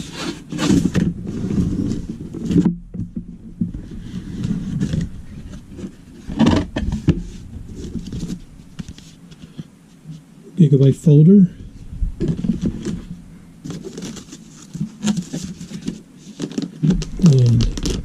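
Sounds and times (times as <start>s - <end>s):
cardboard packaging rustling: 0.0s - 9.7s, 11.7s - 18.0s
sharp knocks and scrapes: 0.0s - 10.2s, 11.6s - 18.0s.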